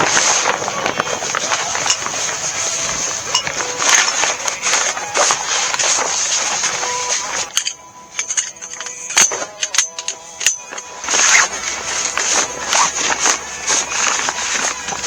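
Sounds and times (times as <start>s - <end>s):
rustling handling noise: 0.0s - 15.0s
clicks and metallic clinks of frame: 1.4s - 15.0s.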